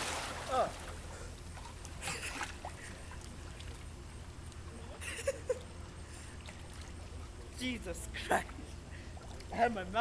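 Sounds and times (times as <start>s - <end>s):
pool water splashing: 0.0s - 10.0s
steady low hum: 0.0s - 10.0s.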